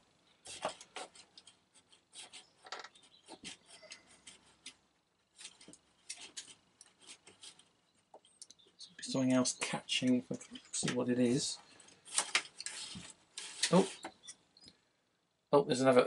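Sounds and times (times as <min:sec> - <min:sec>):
clicks and rustles of wires: 0:00.4 - 0:09.1, 0:09.9 - 0:14.8.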